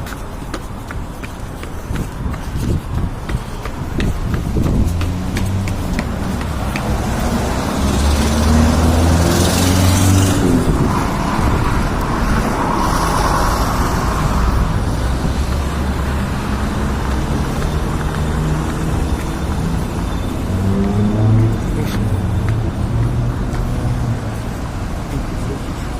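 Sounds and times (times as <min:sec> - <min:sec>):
low traffic rumble: 0:00.0 - 0:25.9
vehicles passing close by: 0:00.0 - 0:25.9.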